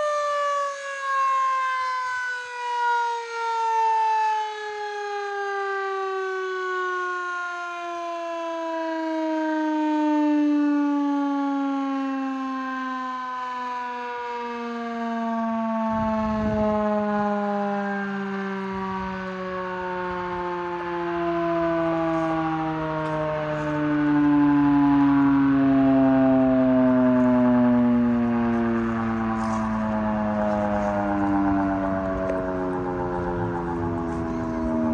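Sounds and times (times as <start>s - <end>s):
fire siren winding down: 0.0s - 34.9s.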